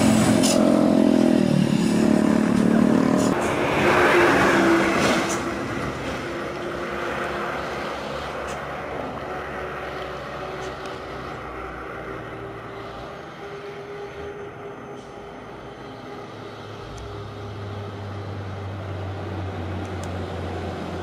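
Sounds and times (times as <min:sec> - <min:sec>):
truck diesel engines labouring uphill: 0:00.0 - 0:21.0.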